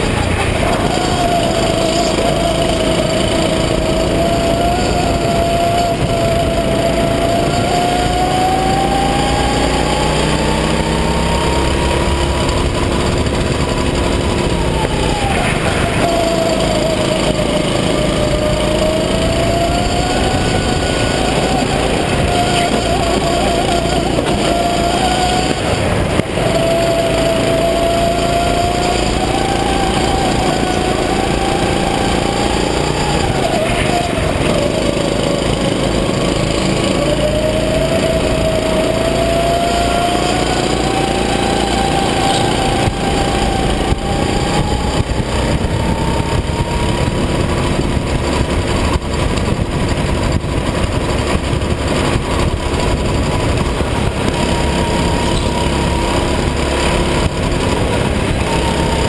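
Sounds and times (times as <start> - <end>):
go-kart engine: 0.0 - 59.0
wind noise on microphone: 0.0 - 59.0.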